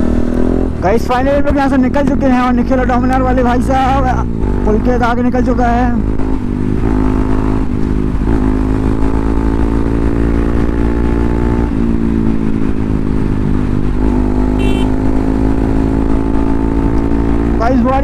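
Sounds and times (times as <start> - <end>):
motorcycle engine cruising: 0.0 - 18.0.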